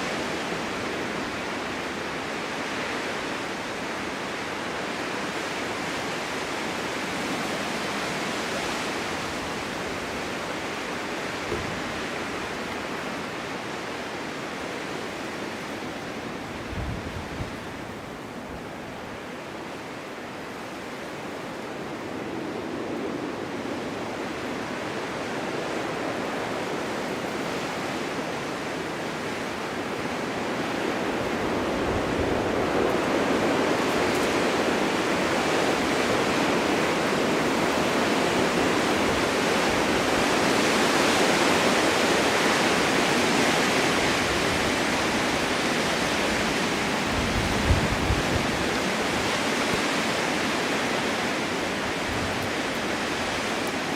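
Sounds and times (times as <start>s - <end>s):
wind gusting in snowstorm: 0.0s - 53.9s.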